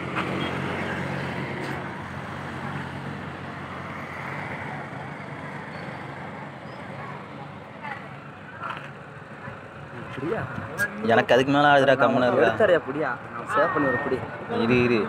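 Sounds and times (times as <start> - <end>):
roadside noise: 0.0 - 15.0
vehicle engine humming: 0.0 - 15.0.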